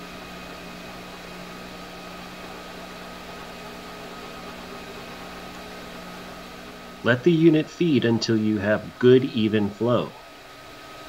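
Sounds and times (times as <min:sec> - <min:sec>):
printer mechanical hum: 0:00.0 - 0:11.0.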